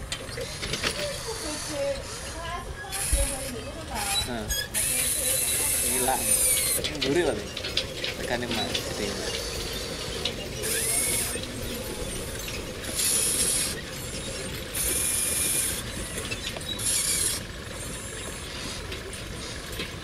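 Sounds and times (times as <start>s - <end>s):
electric motors whirring: 0.0s - 20.0s
low mechanical background: 0.0s - 20.0s.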